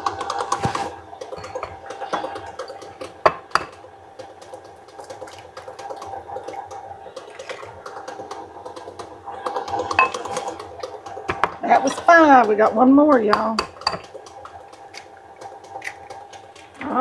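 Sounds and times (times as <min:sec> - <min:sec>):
egg cracking against bowl: 0:00.0 - 0:16.8
electric mixer running: 0:00.0 - 0:17.0.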